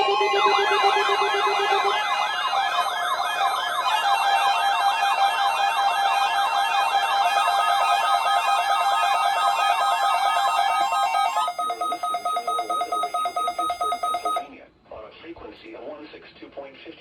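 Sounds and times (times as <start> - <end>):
warbling electronic siren tone: 0.0 - 14.4
electronic beeps: 0.0 - 14.5
rapidly pulsing beep: 0.0 - 14.5.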